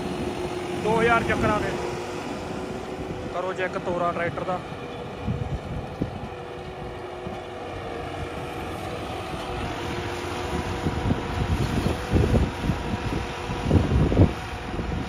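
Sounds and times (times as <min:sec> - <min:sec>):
tractor diesel engine running: 0:00.0 - 0:15.0
wind rumble on microphone: 0:00.0 - 0:15.0.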